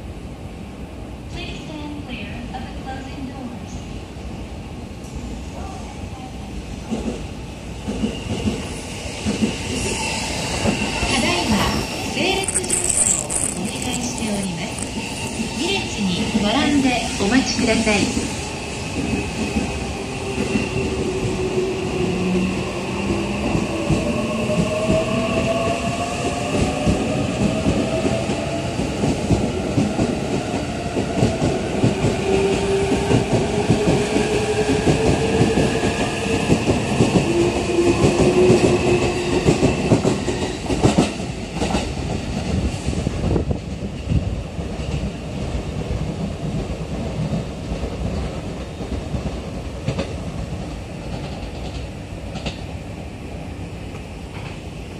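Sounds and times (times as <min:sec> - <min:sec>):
train wheels rumbling and clattering: 0:06.6 - 0:54.9.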